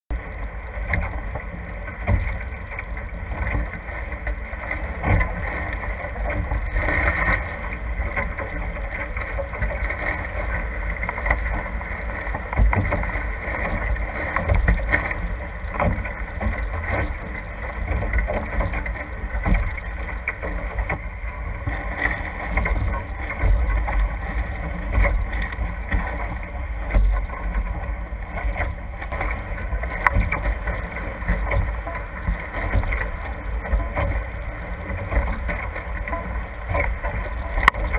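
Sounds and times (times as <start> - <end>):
water rushing past hulls: 0.1 - 37.9.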